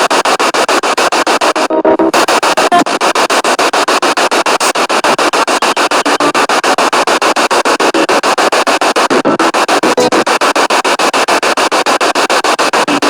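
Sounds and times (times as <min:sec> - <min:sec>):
radio broadcast fragments: 0:00.0 - 0:13.0
radio static bursts: 0:00.0 - 0:13.0.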